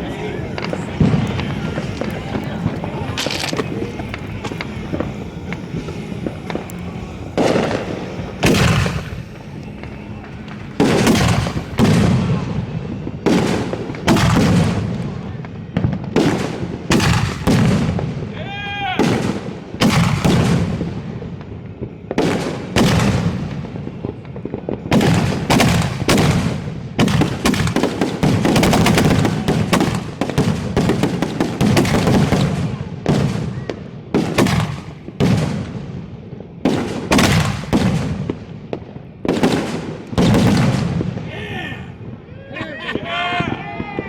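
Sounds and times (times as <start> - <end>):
fireworks cracks and booms: 0.0 - 44.0.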